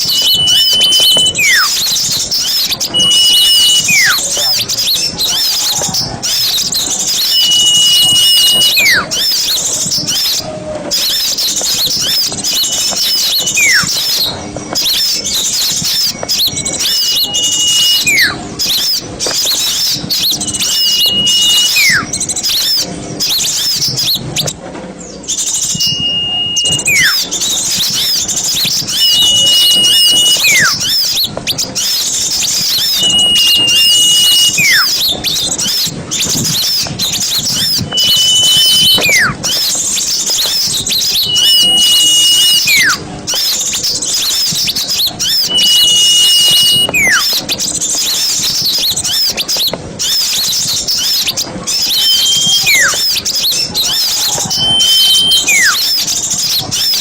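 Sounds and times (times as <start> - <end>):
loud falling bird whistle: 0.0 - 24.6, 25.2 - 57.0
songbirds chirping: 0.0 - 57.0.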